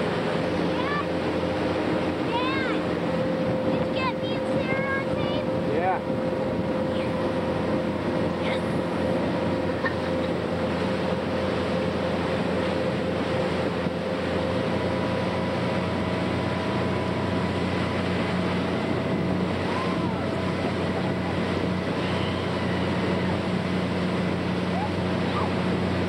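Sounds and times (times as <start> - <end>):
motorboat engine running: 0.0 - 26.0
rush of boat wake: 0.0 - 26.0
wind: 0.0 - 26.0.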